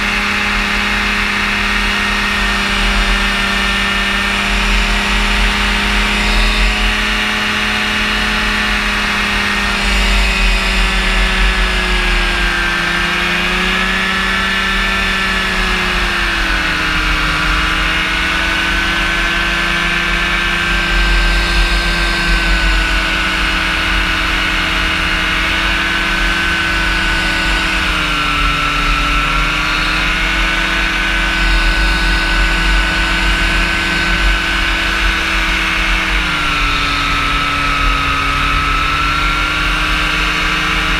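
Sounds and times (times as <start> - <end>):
engine and propeller running: 0.0 - 40.9.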